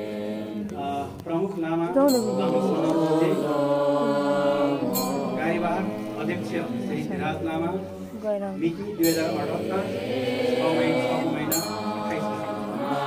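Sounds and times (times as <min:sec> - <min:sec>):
monk reciting into a microphone: 0:00.0 - 0:13.0
prayer chanting in overlapping voices: 0:00.0 - 0:13.0.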